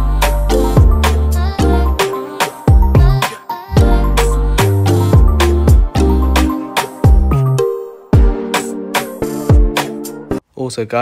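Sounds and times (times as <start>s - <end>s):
electronic music: 0.0s - 10.4s.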